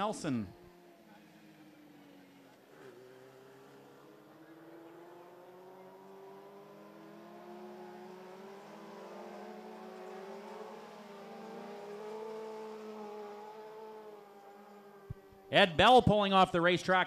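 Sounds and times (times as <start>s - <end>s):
racing car engines running: 0.0s - 15.6s.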